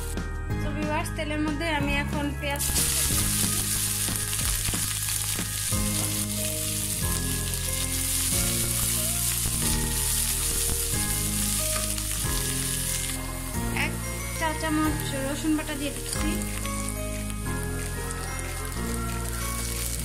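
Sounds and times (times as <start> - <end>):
soft background music: 0.0 - 20.0
onions sizzling in oil: 2.6 - 20.0.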